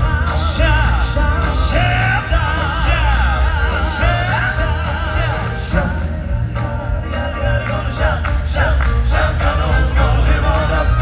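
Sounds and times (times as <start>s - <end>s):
bass and drum beat: 0.0s - 11.0s
gospel quartet singing: 0.0s - 11.0s.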